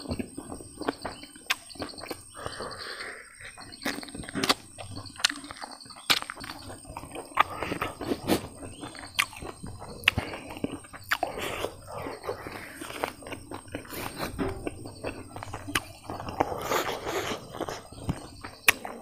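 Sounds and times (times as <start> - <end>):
chewing and lip-smacking: 0.0 - 19.0.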